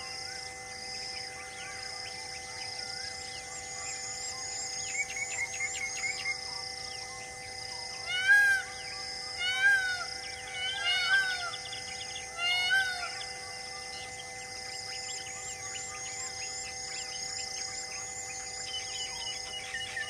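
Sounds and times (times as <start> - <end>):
animal wavering calls: 0.0 - 20.0
drone-like music bed: 0.0 - 20.0.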